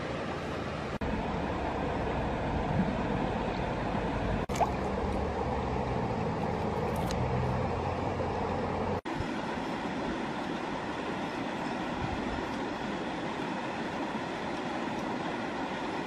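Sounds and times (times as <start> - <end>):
rushing outdoor noise: 0.0 - 16.0.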